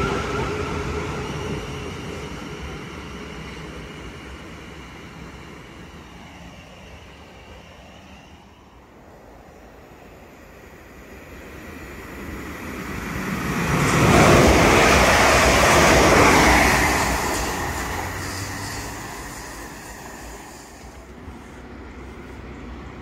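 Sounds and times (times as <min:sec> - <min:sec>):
train wheels rumbling on rails: 0:00.0 - 0:10.1, 0:11.0 - 0:23.0.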